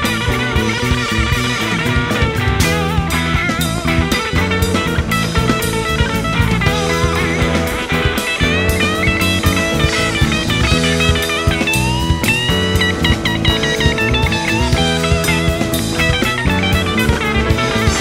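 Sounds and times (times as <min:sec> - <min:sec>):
bass guitar: 0:00.0 - 0:18.0
drum kit: 0:00.0 - 0:18.0
electric guitar lead with bends: 0:00.0 - 0:18.0.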